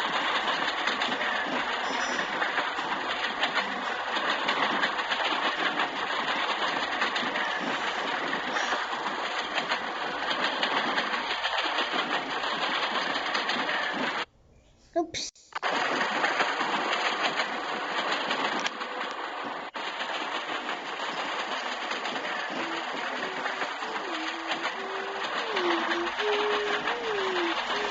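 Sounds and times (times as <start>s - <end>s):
train rumbling on rails: 0.0s - 14.3s, 15.6s - 27.9s
wheels clattering over track: 0.0s - 14.3s, 15.6s - 27.9s.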